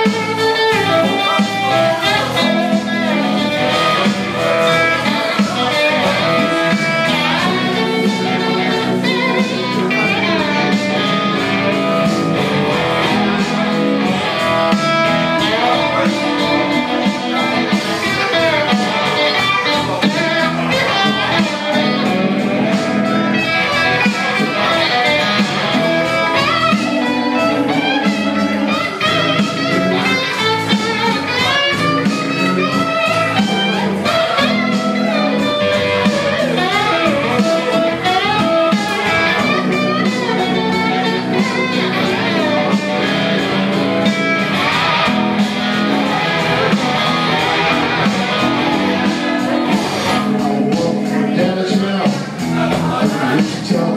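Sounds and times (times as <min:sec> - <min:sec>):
bass and drums backing: 0:00.0 - 0:53.9
blues rock electric guitar lead: 0:00.0 - 0:53.9.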